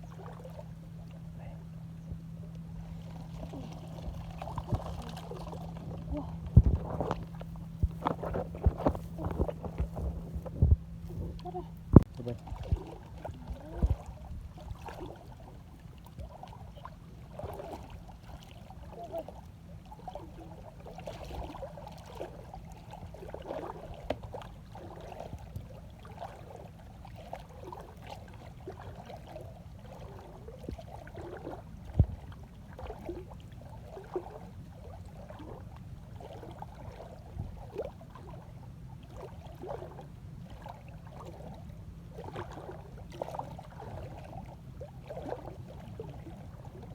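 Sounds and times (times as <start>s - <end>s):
low steady hum: 0.0s - 46.9s
water gurgling and sloshing: 0.0s - 46.9s.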